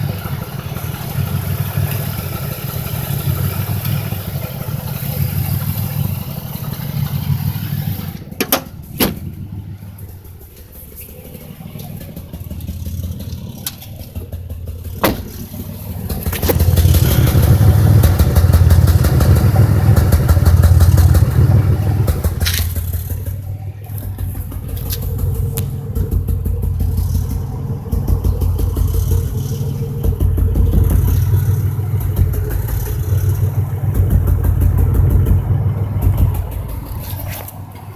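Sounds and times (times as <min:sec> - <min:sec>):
car engine running unevenly: 0:00.0 - 0:37.9.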